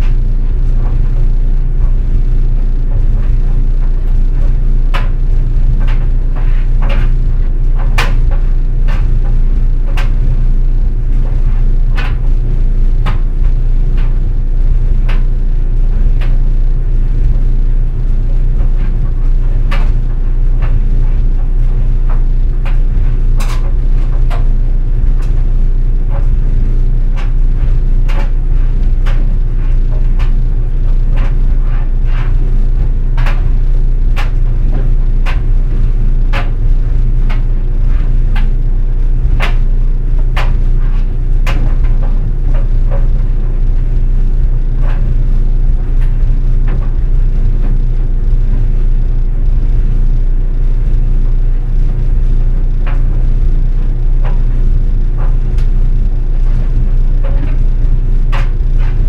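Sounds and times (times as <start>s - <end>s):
dryer humming: 0.0s - 59.0s.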